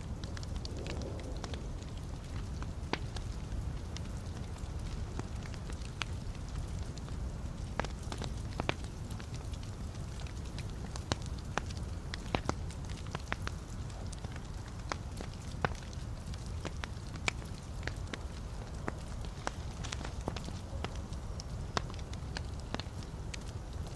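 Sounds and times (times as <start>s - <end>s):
wood fire burning: 0.0s - 23.9s.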